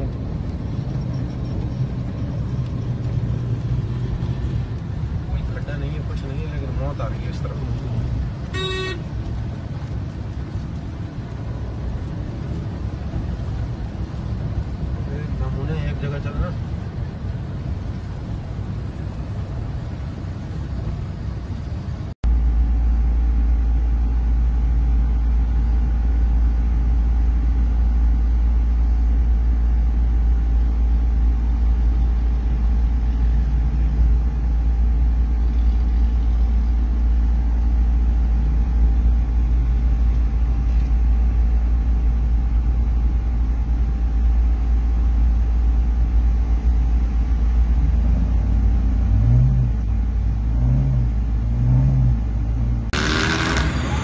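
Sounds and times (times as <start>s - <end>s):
car interior rumble: 0.0s - 54.0s.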